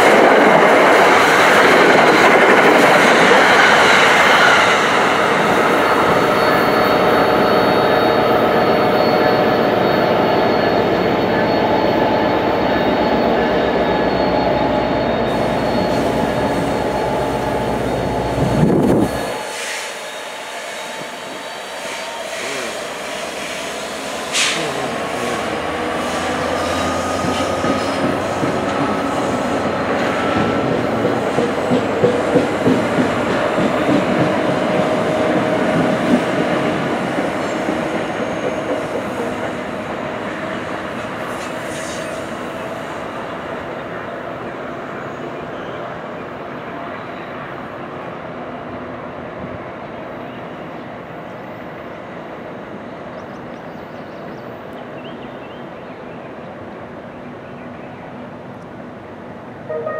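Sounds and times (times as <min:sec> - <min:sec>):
train rail and wheel noise: 0:00.0 - 0:59.9.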